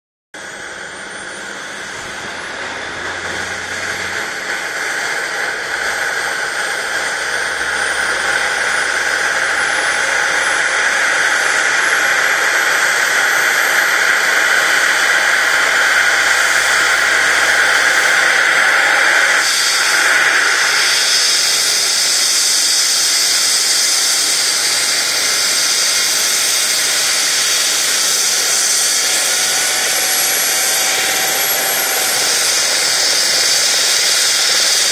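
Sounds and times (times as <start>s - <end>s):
helicopter turbine whine: 0.4s - 34.9s.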